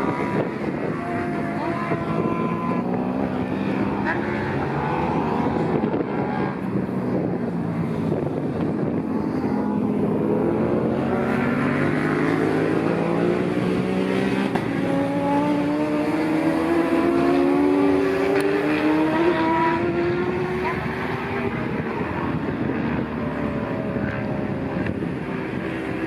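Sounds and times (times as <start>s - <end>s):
racing motorcycles accelerating: 0.0s - 26.0s.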